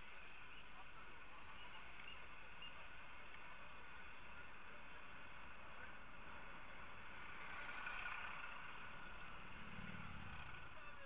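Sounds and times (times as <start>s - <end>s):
bus passing close: 0.0s - 11.0s
traffic noise: 0.0s - 11.0s.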